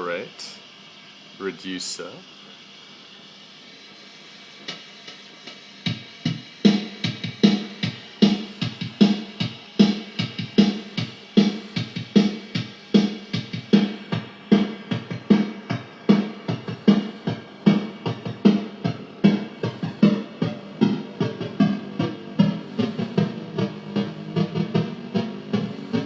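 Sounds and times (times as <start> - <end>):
lo-fi drum machine beat: 0.0 - 0.8, 3.7 - 26.0
effects pedal hiss: 0.0 - 26.0.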